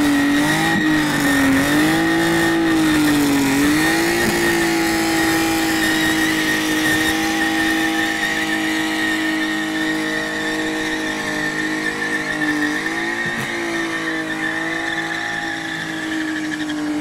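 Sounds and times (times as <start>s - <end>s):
car engine at high revs: 0.0s - 17.0s
tyres spinning and squealing: 0.0s - 17.0s.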